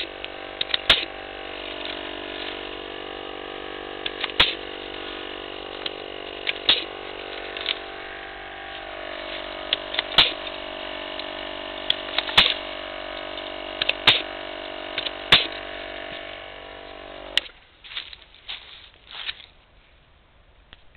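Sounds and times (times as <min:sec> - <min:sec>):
air compressor hum: 0:00.0 - 0:17.6
pruning shear snapping: 0:00.0 - 0:17.6.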